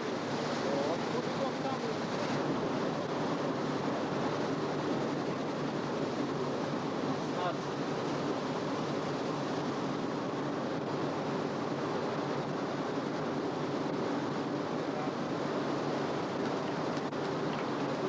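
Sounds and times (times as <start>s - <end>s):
faint low engine hum: 0.0s - 18.0s
water rushing: 0.0s - 18.0s.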